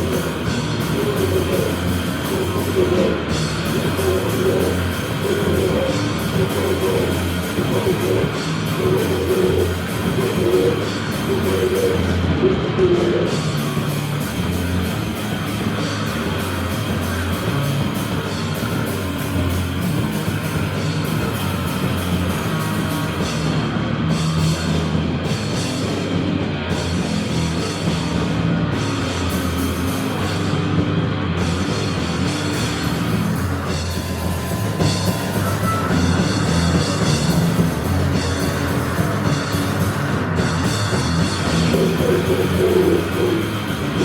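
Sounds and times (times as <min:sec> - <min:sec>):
distorted guitars: 0:00.0 - 0:44.0
fast drum kit: 0:00.0 - 0:44.0.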